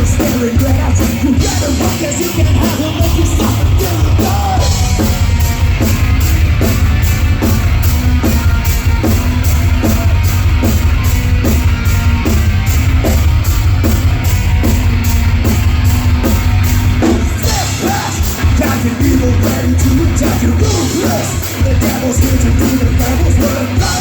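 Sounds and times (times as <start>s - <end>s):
heavy metal band playing: 0.0s - 24.0s.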